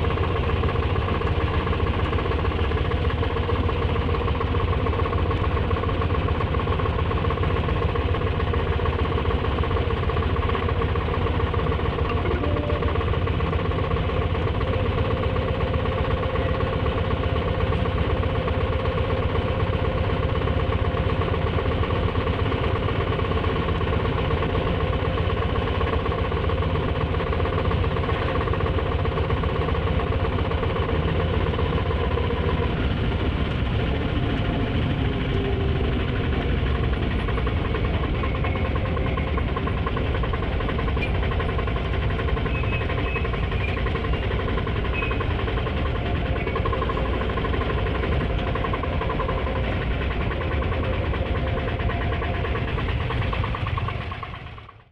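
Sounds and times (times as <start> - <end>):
auto rickshaw engine idling: 0.0 - 54.9.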